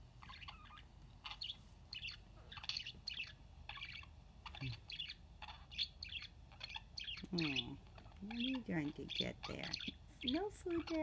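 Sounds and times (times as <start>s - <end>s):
budgerigar chirping: 0.2s - 11.0s.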